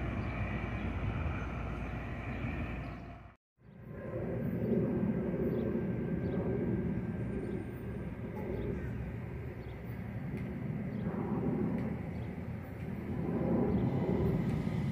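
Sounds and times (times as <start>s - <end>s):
low outdoor rumble: 0.0s - 14.9s.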